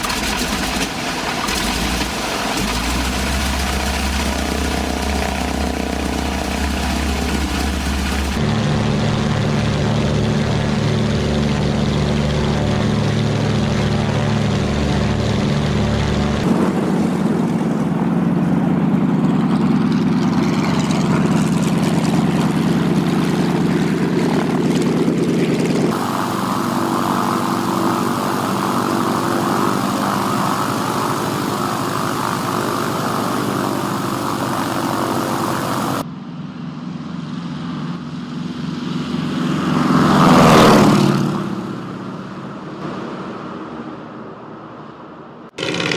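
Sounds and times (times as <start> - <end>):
propeller aircraft engines running: 0.0 - 43.9, 45.5 - 45.9
aircraft passing close by: 0.0 - 45.9.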